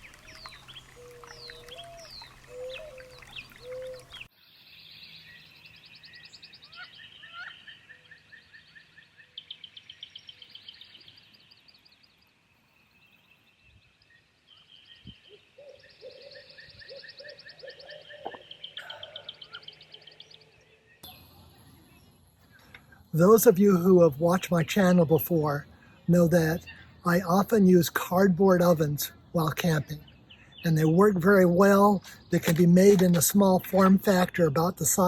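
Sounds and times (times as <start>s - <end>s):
birds chirping and trilling: 0.0s - 35.0s.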